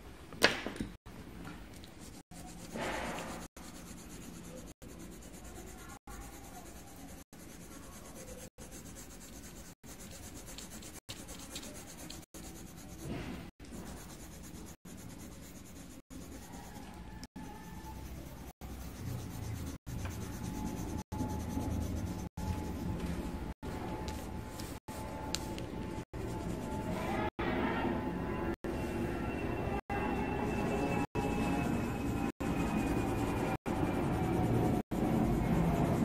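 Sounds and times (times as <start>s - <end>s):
pencil scratching on paper: 1.8s - 27.3s, 29.9s - 36.0s.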